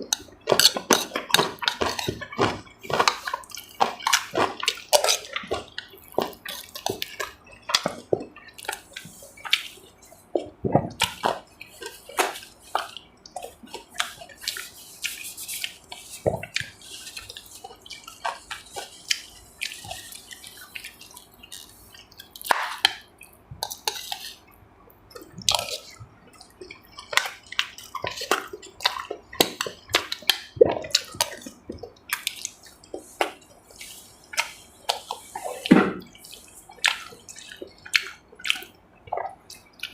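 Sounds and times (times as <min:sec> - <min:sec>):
wet chewing and mouth smacks: 0:00.0 - 0:39.9.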